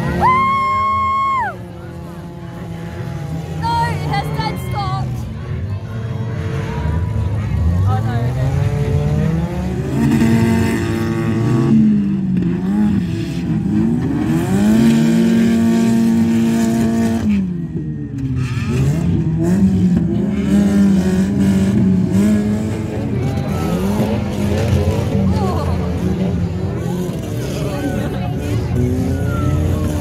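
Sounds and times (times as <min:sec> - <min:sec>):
car engines revving hard: 0:00.0 - 0:30.0.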